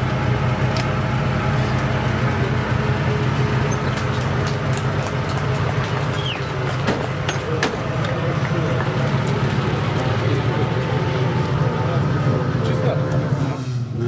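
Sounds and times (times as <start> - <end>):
off-road vehicle engine idling: 0.0 - 14.0.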